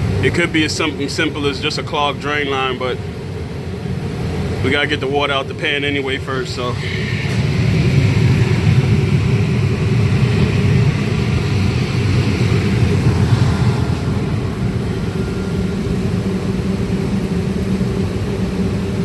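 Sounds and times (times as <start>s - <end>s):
pump droning: 0.0s - 19.0s.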